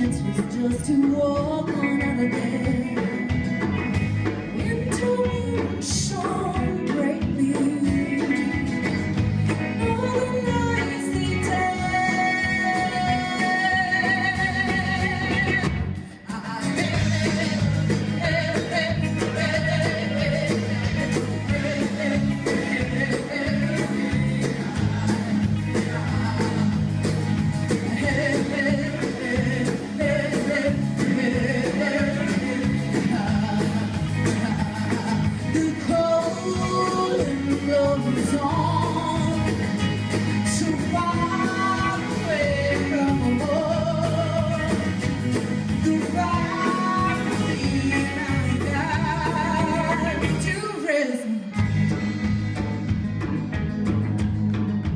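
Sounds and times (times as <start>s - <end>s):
person singing: 0.0s - 9.1s, 9.7s - 51.7s
live folk-rock band: 0.0s - 54.9s.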